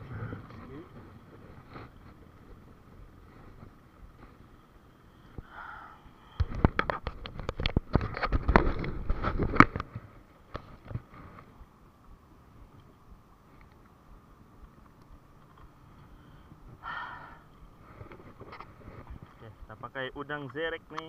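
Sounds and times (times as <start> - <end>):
low background hiss: 0.0 - 6.6, 9.8 - 21.0.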